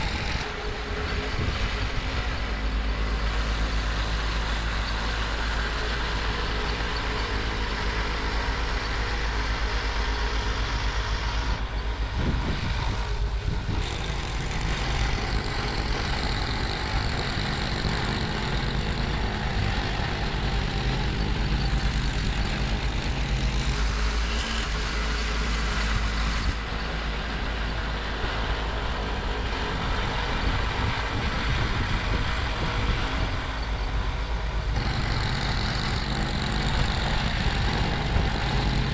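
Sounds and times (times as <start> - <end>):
snowblower engine running: 0.0 - 11.9, 12.9 - 29.8, 33.0 - 38.9.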